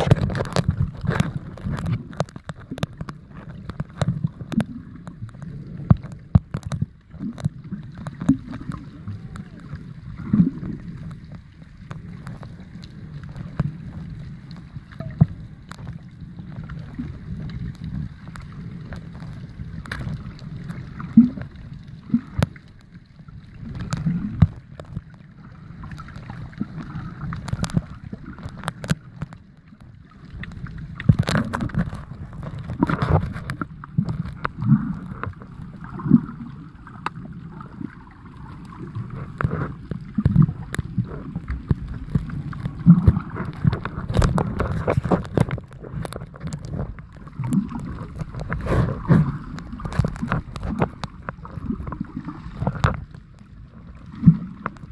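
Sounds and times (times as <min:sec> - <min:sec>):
muffled underwater wash: 0:00.0 - 0:54.9
sharp underwater clicks and knocks: 0:00.0 - 0:54.9.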